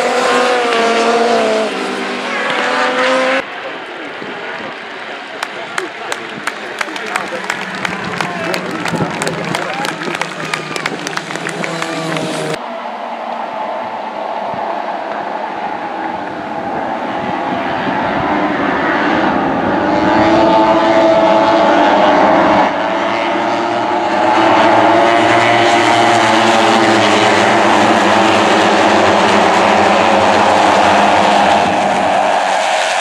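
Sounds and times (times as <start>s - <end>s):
racing motorcycles passing by: 0.0s - 13.5s, 14.4s - 33.0s.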